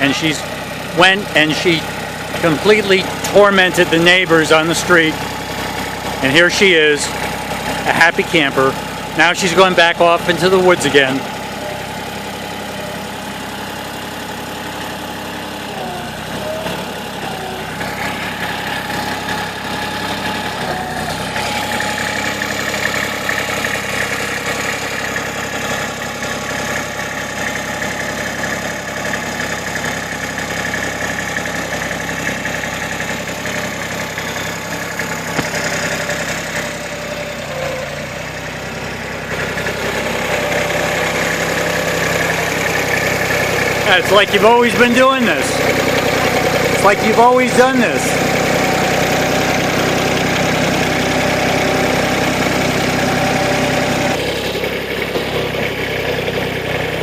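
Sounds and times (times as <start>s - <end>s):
backhoe engine running: 0.0s - 57.0s.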